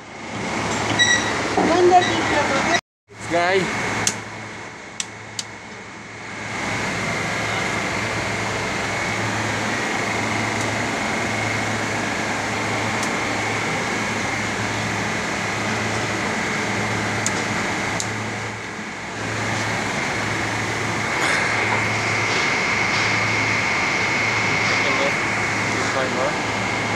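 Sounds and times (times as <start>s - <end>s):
freezer compressor running: 0.0s - 26.9s.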